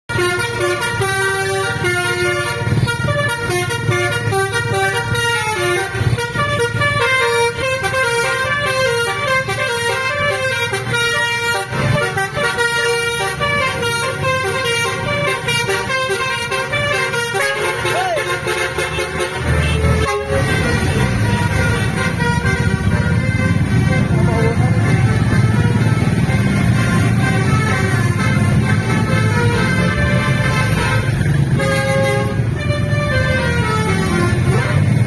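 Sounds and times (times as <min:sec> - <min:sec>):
multi-tone musical horn melody: 0:00.1 - 0:35.0.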